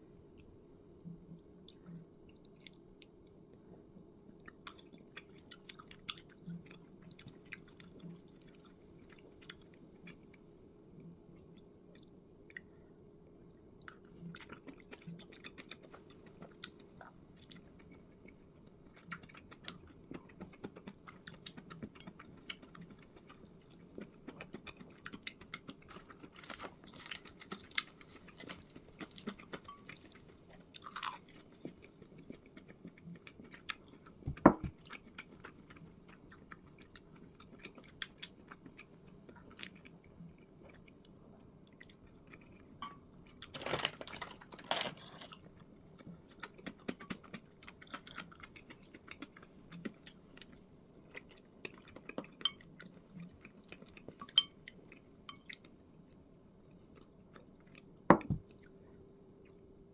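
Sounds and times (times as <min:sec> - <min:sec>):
low steady hum: 0:00.0 - 0:59.9
person chewing and eating: 0:00.3 - 0:59.9.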